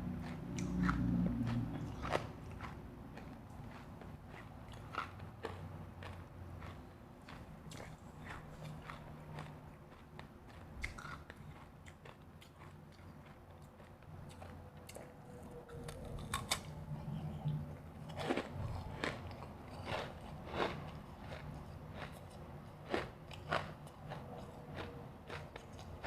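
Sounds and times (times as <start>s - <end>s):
chewing crunchy ice: 0.1s - 16.8s, 18.0s - 26.0s.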